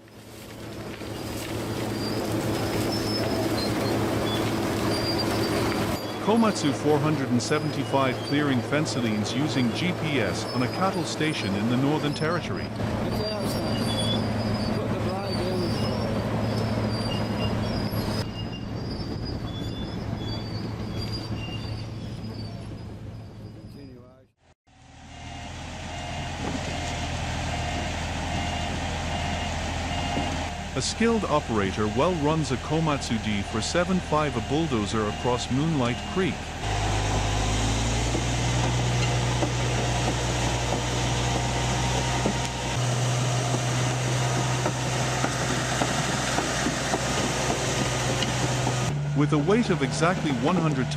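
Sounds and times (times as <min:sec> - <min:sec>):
steel tracks squealing: 0:00.0 - 0:24.3, 0:24.9 - 0:50.9
bulldozer diesel engine: 0:00.0 - 0:50.9.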